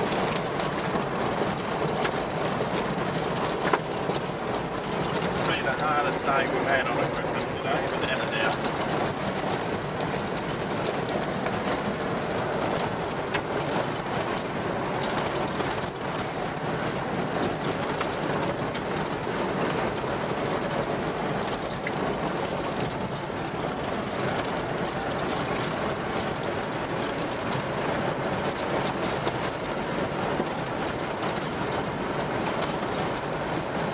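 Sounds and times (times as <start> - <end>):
vehicle road noise on dirt track: 0.0 - 33.9.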